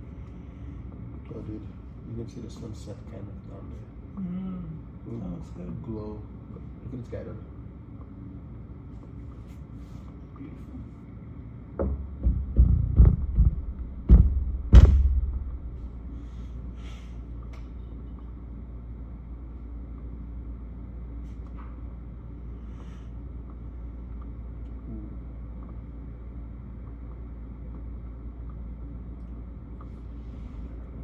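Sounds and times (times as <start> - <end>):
low ambient rumble: 0.0 - 31.0.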